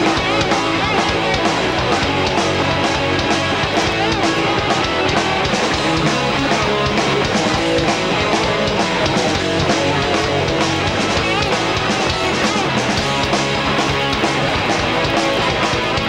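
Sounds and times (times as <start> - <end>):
bass guitar: 0.0 - 16.0
distorted electric guitars: 0.0 - 16.0
drum kit beat: 0.0 - 16.0.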